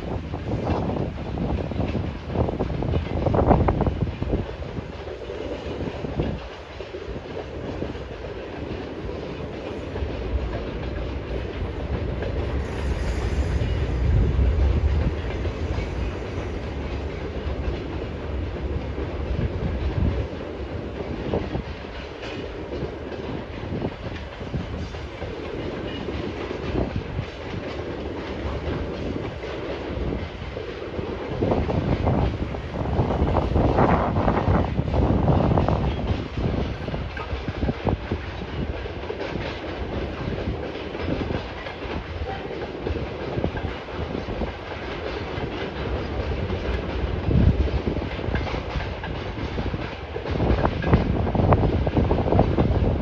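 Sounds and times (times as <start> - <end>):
freight train rumbling: 0.0 - 53.0.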